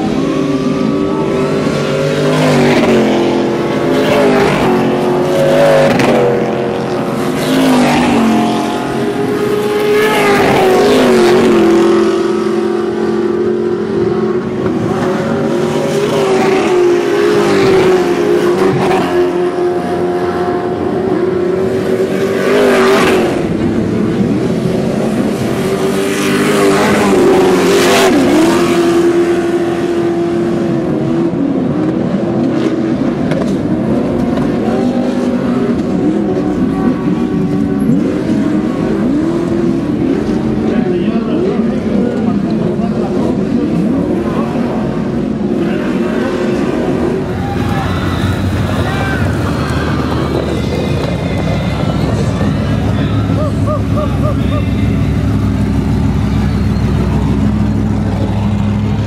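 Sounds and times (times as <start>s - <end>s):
race vehicle engines revving: 0.0s - 59.0s.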